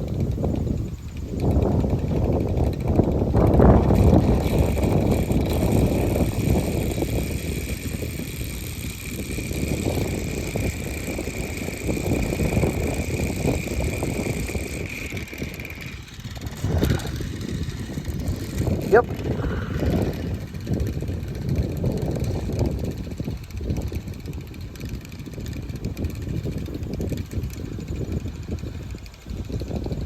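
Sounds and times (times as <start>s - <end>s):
steady high whine: 0.0s - 29.9s
strong wind buffeting microphone: 0.0s - 30.0s.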